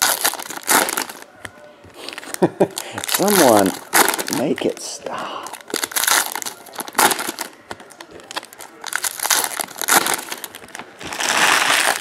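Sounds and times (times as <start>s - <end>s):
foil wrappers crinkling: 0.0s - 1.3s, 2.0s - 12.0s.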